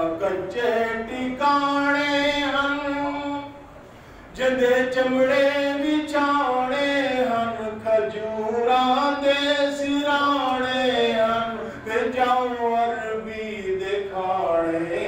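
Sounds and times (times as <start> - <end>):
man reciting devotional poem: 0.0 - 15.0.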